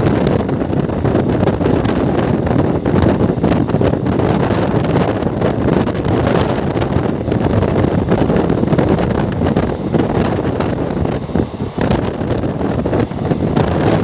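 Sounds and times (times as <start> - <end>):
moving train running noise: 0.0 - 14.0
wind buffeting microphone: 0.0 - 14.0.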